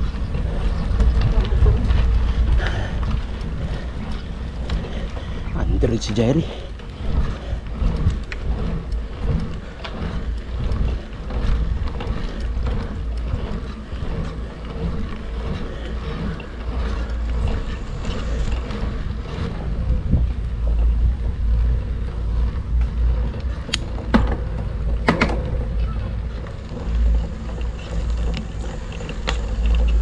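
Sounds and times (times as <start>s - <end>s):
bike clicks and rattles: 0.0s - 30.0s
wind buffeting microphone: 0.0s - 30.0s.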